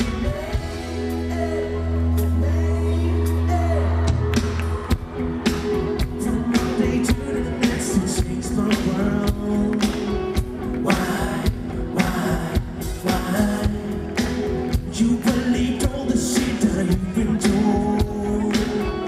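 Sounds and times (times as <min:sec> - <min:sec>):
live pop-rock band: 0:00.0 - 0:19.0.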